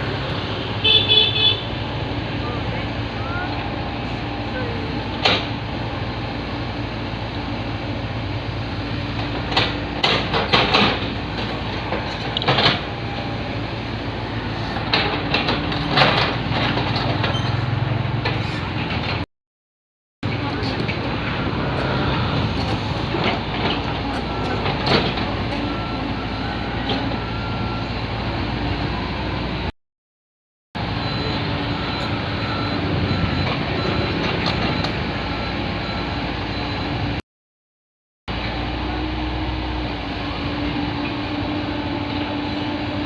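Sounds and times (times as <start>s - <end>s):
construction machinery engine: 0.0s - 19.2s, 20.2s - 29.7s, 30.8s - 37.2s, 38.3s - 43.0s.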